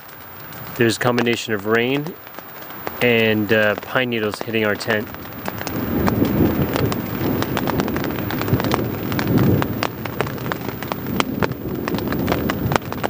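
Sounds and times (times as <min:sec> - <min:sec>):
low storm rumble: 0:00.0 - 0:13.0
rain tapping on tent fabric: 0:00.0 - 0:13.0.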